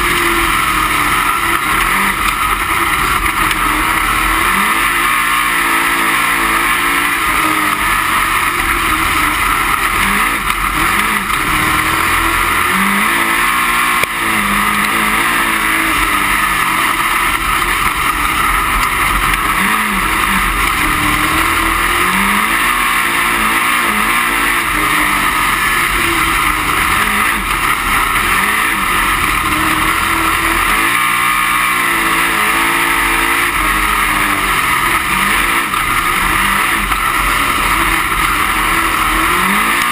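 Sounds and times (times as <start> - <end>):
race car engine revving: 0.0 - 39.9
wind and chassis noise: 0.0 - 39.9.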